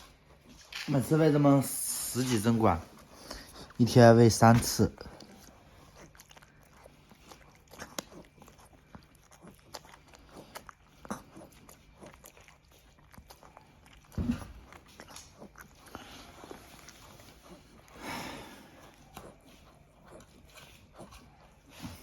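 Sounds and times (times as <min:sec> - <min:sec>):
dog chewing wet food: 0:00.0 - 0:22.0.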